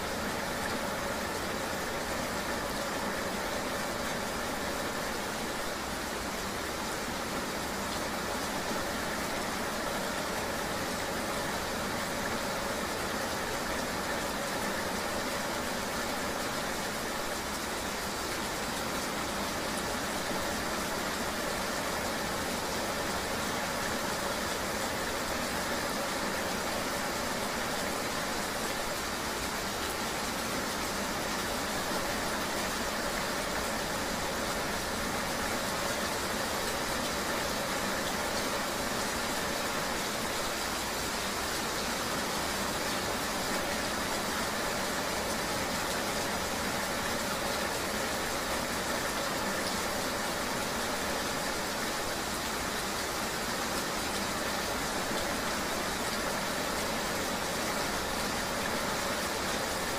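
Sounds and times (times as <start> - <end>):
rain and road noise: 0.0 - 59.9.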